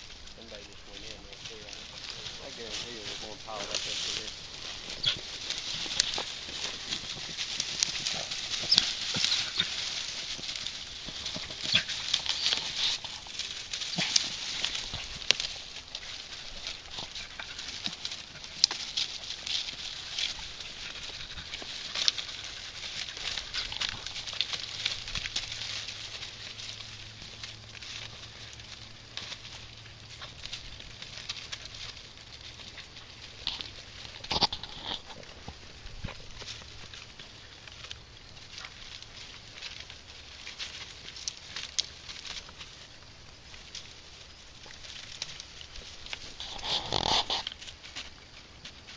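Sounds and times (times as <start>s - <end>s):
dry grass and twigs crunching: 0.0s - 48.9s
stems snapping: 0.9s - 42.7s.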